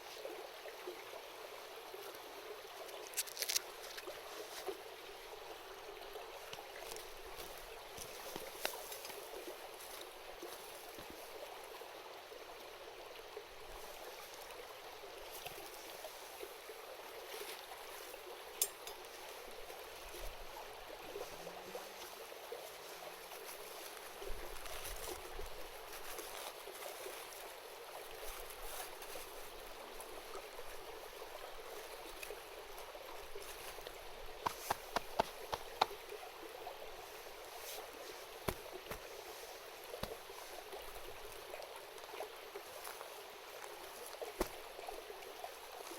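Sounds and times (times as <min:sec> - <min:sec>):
river babbling: 0:00.0 - 0:45.9.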